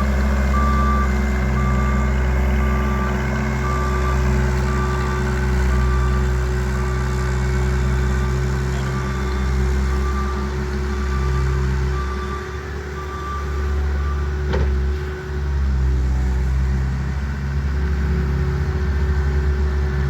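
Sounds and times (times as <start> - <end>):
loader engine running: 0.0 - 20.0.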